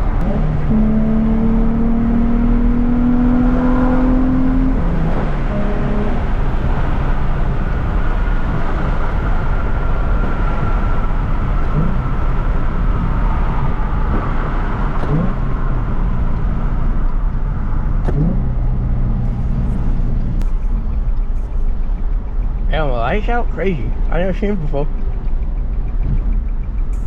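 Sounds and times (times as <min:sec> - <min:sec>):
car engine: 0:00.0 - 0:27.0
road noise: 0:00.0 - 0:27.0.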